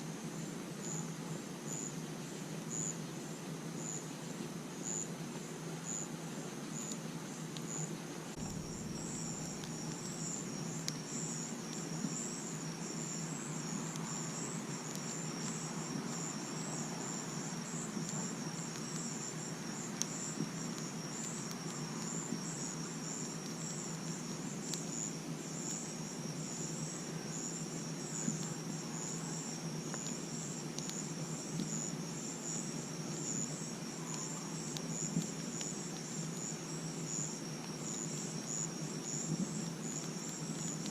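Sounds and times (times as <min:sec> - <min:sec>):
night insects chirping trill: 0:00.0 - 0:40.9
campfire crackling: 0:03.7 - 0:40.9.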